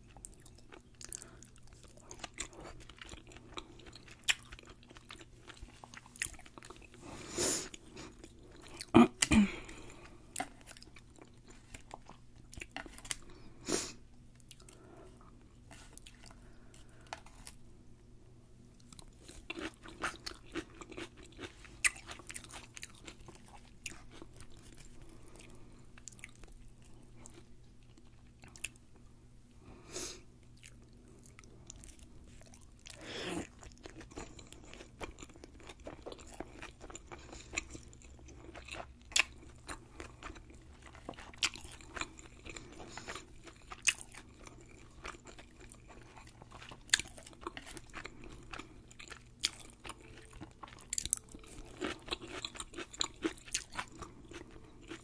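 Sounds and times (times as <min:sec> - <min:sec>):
crunchy chewing: 0:00.0 - 0:13.7, 0:18.8 - 0:28.8, 0:30.5 - 0:55.0.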